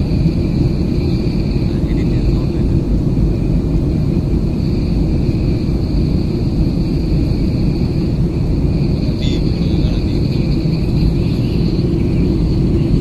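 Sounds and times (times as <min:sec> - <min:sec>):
jet engine cabin drone: 0:00.0 - 0:13.0.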